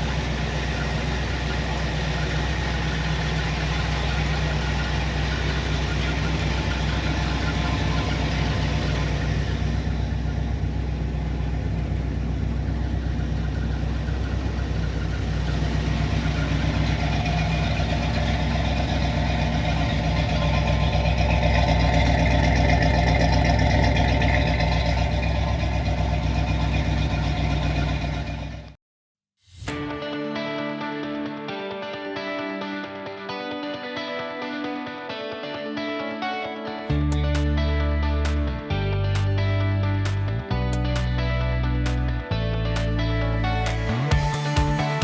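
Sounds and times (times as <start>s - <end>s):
car engine idling: 0.0s - 28.8s, 36.9s - 45.0s.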